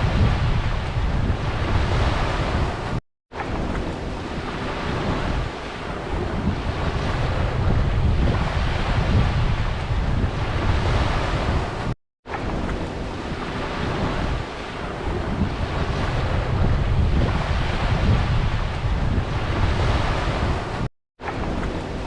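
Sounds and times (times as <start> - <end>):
ocean surf washing onto beach: 0.0 - 22.0
wind buffeting microphone: 0.0 - 22.0.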